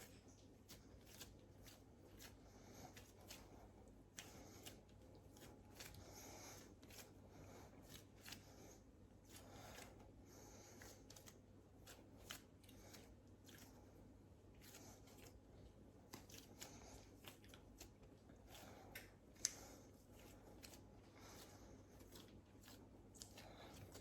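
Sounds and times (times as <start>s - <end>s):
hands working in a kitchen: 0.0s - 24.0s.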